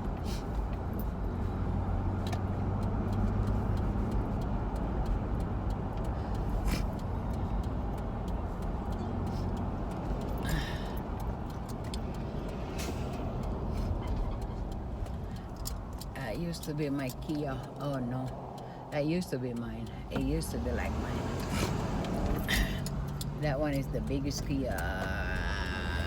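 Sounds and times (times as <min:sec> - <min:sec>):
faint ticks: 0:00.0 - 0:26.0
road and engine rumble in car: 0:00.0 - 0:26.0.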